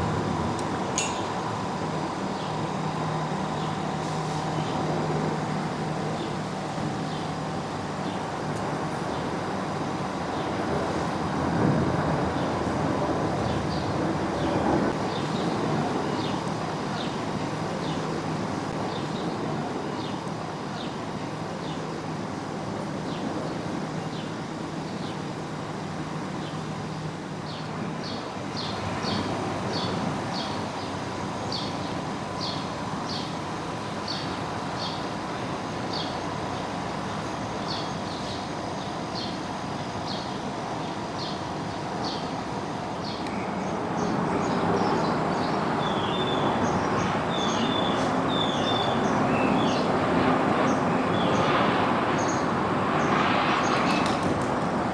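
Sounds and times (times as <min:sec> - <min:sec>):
airliner engine noise: 0:00.0 - 0:54.9
motorway traffic noise: 0:00.0 - 0:54.9.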